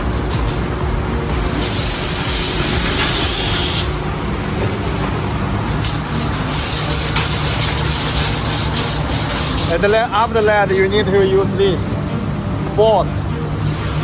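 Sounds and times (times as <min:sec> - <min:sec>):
compressed air hissing: 0:00.0 - 0:11.4, 0:13.6 - 0:14.0
cutting machine low rumble: 0:00.0 - 0:14.0.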